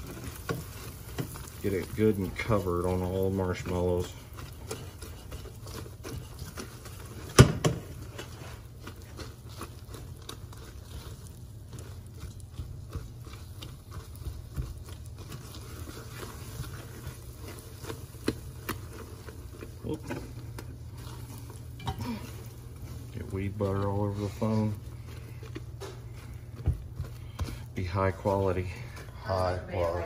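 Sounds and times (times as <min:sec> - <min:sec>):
spatula scraping a saucepan: 0:00.0 - 0:30.0.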